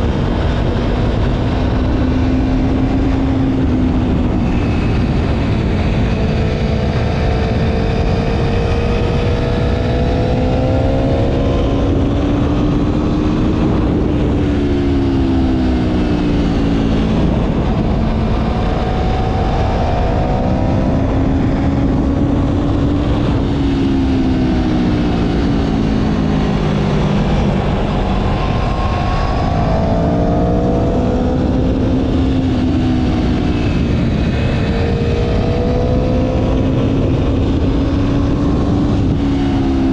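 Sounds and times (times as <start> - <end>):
low rumble of wind: 0.0 - 39.9
motorcycle engine running: 0.0 - 39.9.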